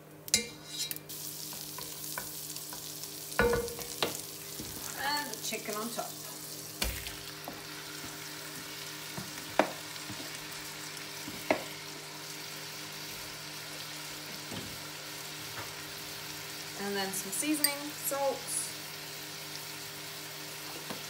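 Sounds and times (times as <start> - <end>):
chicken sizzling in butter: 0.4 - 21.0.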